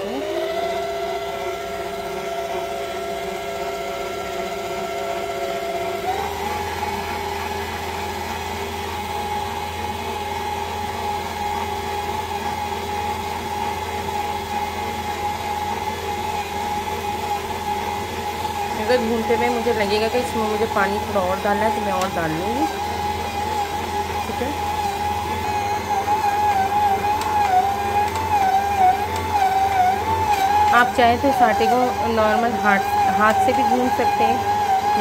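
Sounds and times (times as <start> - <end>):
stand mixer motor whine: 0.0 - 35.0.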